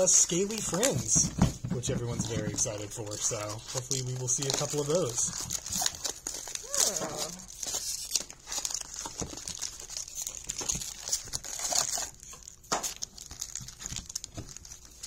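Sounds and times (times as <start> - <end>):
packs clicking and rustling: 0.0 - 14.8
foil wrappers crinkling: 0.0 - 15.0.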